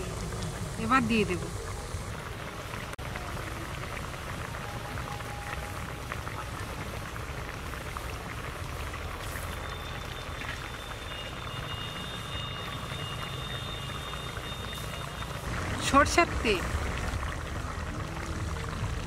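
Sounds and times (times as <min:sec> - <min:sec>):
gravy boiling and bubbling: 0:00.0 - 0:19.0.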